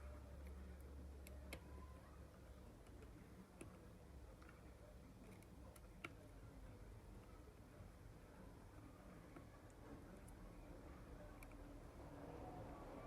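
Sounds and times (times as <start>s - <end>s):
quiet room hum: 0.0s - 13.0s.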